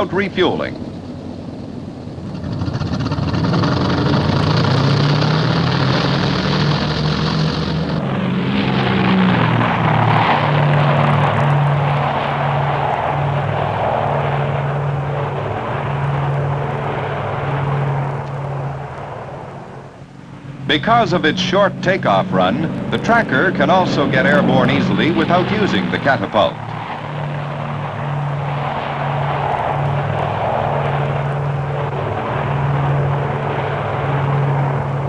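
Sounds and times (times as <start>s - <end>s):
piston aircraft engines running: 0.0s - 35.0s.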